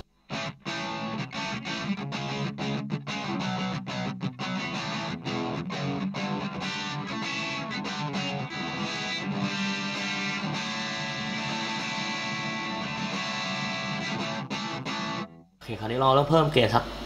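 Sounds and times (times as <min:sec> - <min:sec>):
overdriven electric guitar chords: 0:00.0 - 0:15.5.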